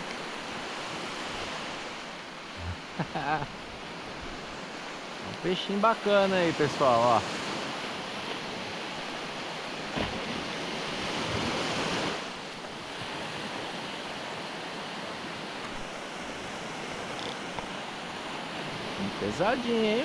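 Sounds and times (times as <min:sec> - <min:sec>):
surf washing onto beach: 0:00.0 - 0:20.0.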